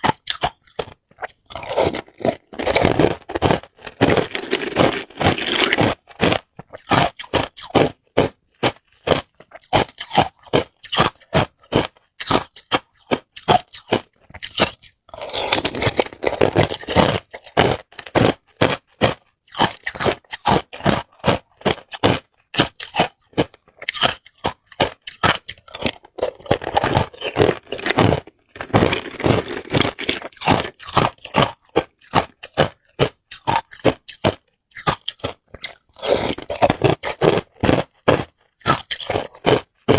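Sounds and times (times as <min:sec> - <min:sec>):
ice cubes crunched between teeth: 0:00.0 - 0:39.9.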